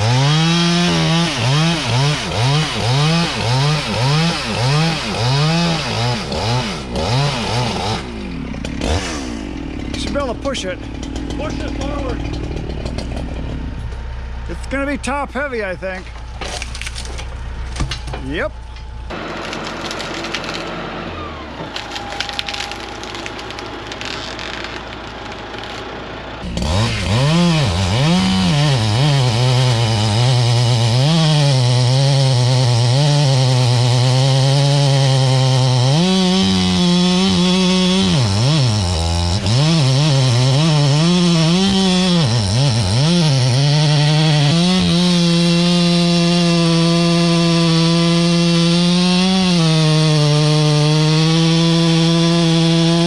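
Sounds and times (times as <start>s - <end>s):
wood snapping and crackling: 0.0s - 14.1s, 16.0s - 20.9s, 21.6s - 53.0s
chainsaw revving: 0.0s - 14.7s, 19.1s - 53.0s.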